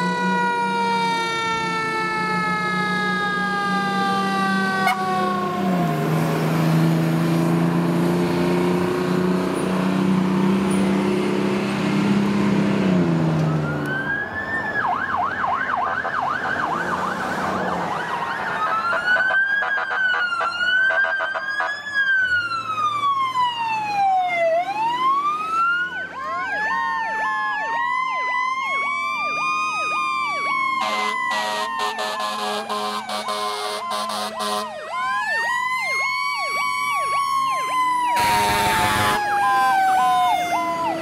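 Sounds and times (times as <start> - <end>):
electronic sirens yelping and wailing: 0.0 - 7.7, 13.4 - 41.0
diesel engine pulling away: 0.0 - 14.8, 21.9 - 41.0.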